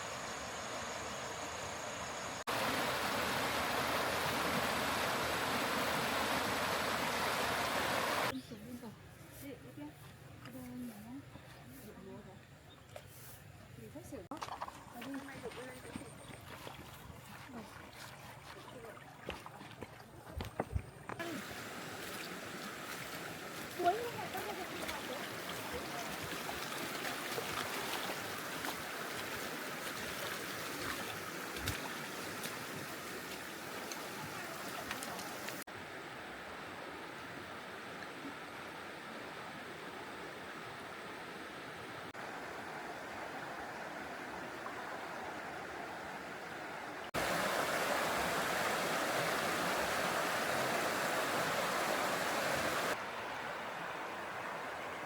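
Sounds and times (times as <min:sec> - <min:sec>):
running water rushing: 0:00.0 - 0:08.4, 0:14.1 - 0:55.0.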